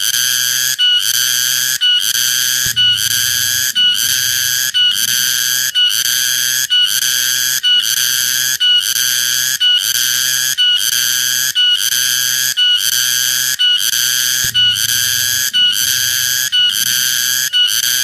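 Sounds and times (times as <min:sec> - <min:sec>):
cicada buzzing call: 0:00.0 - 0:18.0.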